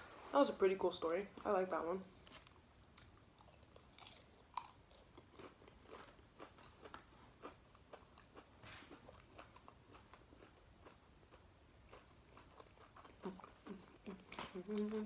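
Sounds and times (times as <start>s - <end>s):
person chewing food: 2.2s - 15.0s.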